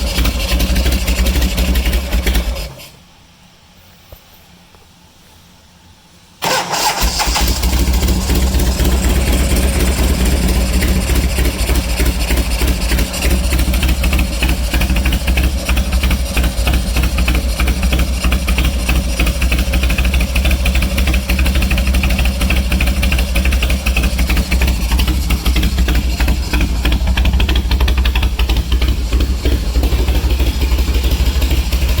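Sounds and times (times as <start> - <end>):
motorcycle engine running loud: 0.0 - 2.7, 7.6 - 32.0.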